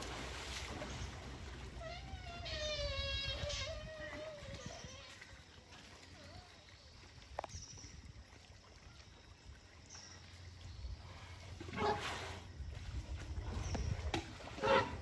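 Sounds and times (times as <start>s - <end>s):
elephants splashing in water: 0.0s - 15.0s.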